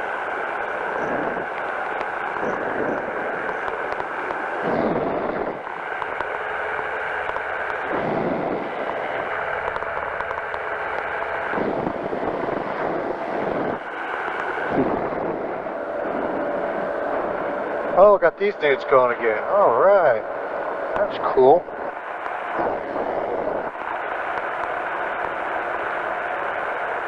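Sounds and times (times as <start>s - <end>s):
engine and propeller running: 0.0s - 27.0s.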